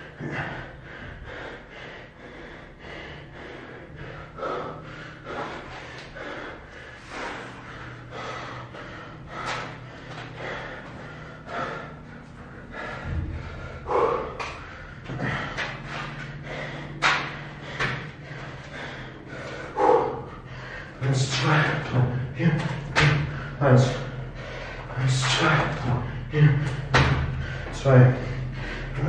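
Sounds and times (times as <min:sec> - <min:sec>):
man breathing hard: 0:00.0 - 0:29.0.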